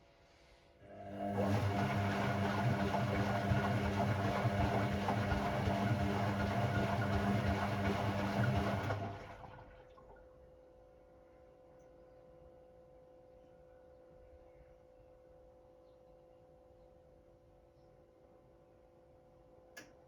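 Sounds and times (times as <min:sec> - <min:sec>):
washing machine mains hum: 0:00.8 - 0:20.0.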